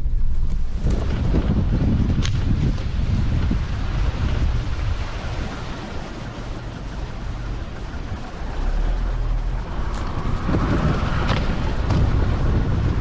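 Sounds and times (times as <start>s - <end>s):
vehicle rumbling on dirt track: 0.0s - 13.0s.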